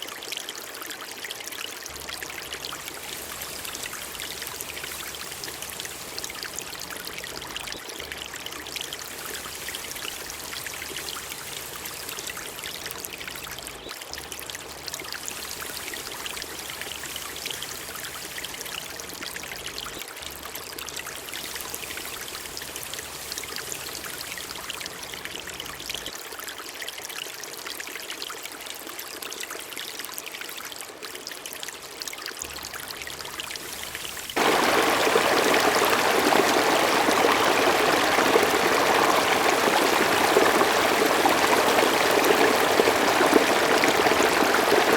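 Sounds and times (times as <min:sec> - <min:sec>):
water trickling and dripping: 0:00.0 - 0:44.9.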